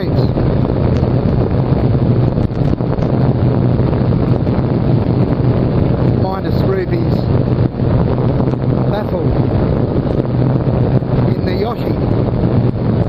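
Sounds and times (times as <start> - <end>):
motorcycle engine droning: 0.0 - 13.0
wind noise on microphone: 0.0 - 13.0.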